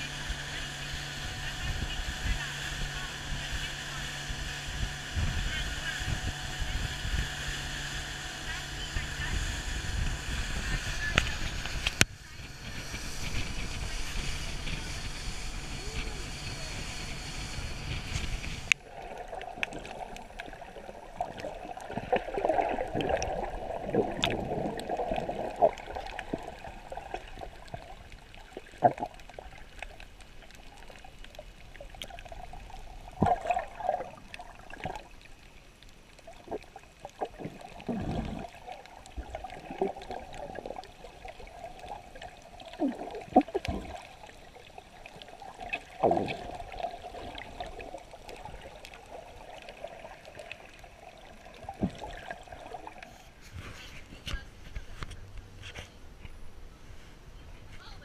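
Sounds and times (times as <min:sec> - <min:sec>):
motorboat engine drone: 0:00.0 - 0:49.2
wind and churned water rushing: 0:00.0 - 0:53.1.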